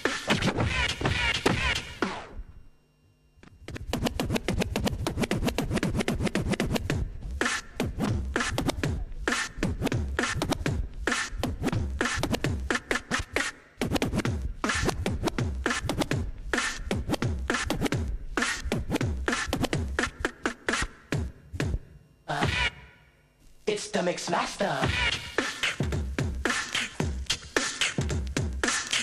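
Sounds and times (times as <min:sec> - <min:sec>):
vinyl record scratching: 0:00.0 - 0:02.4, 0:03.7 - 0:22.9, 0:23.6 - 0:29.0.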